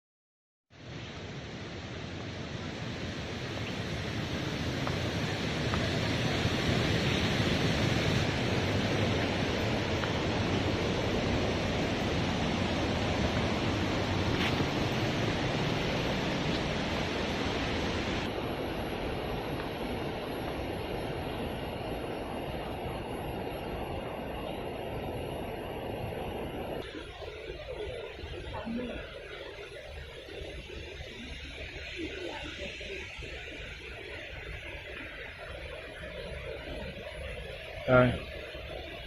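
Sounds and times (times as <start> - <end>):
waterfall rushing: 2.5 - 39.0.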